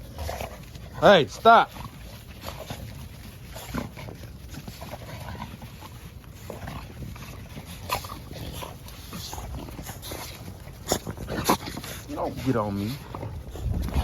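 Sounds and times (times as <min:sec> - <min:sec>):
dogs roughhousing: 0:00.0 - 0:14.0.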